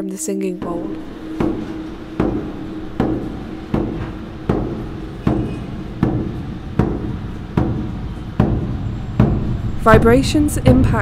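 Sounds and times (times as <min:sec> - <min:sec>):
frame drum beats: 0:00.5 - 0:11.0.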